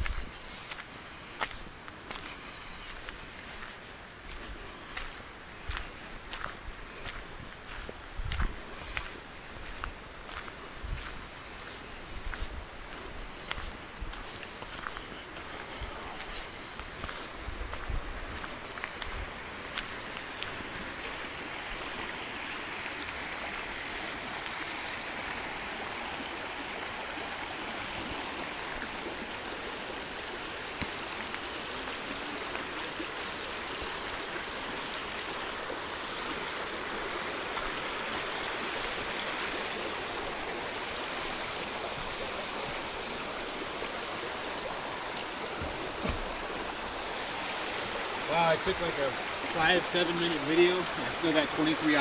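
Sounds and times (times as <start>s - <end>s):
creek running over rocks: 0.0s - 52.0s.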